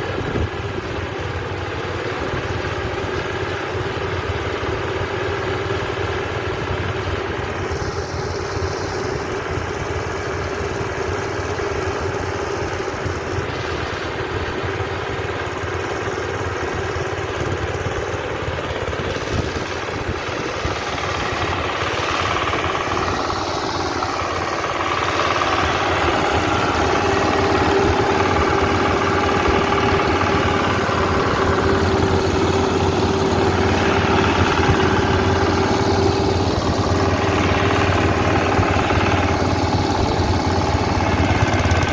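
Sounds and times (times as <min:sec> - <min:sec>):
harvester engine running: 0:00.0 - 0:41.9
steady machine whine: 0:00.0 - 0:41.9.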